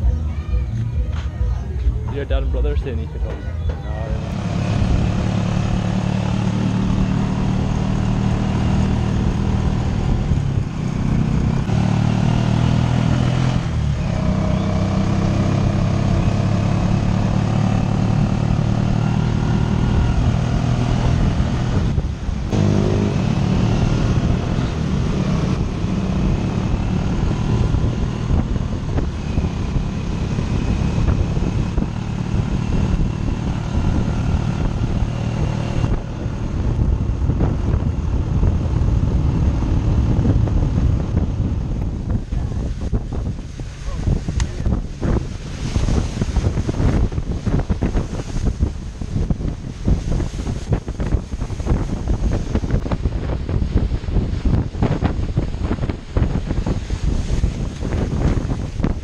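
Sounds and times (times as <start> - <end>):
motorcycle engine running: 4.0 - 59.0.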